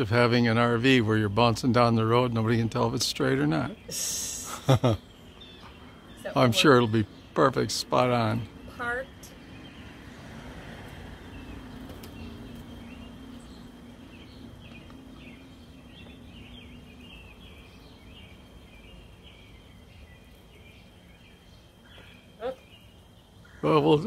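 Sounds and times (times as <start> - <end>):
birds chirping: 0.0 - 24.0
steady low hum: 0.0 - 24.0.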